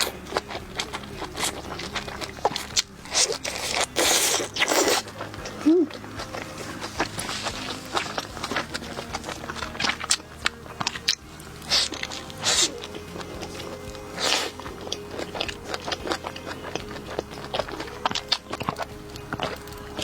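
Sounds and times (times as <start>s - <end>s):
background music: 0.0s - 20.0s
burger being bitten and chewed: 0.0s - 20.0s.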